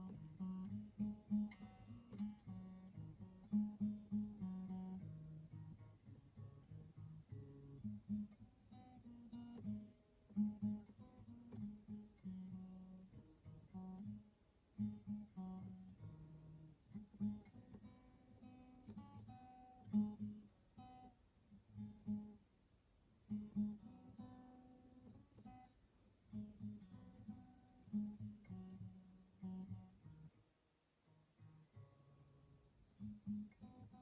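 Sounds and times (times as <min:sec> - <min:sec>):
acoustic guitar: 0:00.0 - 0:34.0.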